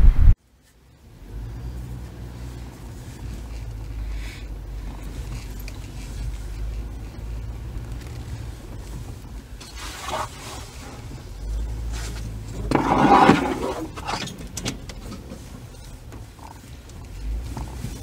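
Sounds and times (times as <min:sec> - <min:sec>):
vehicle engine and tyres rumbling: 0:00.0 - 0:18.0
vehicle rattles and knocks: 0:01.3 - 0:18.0.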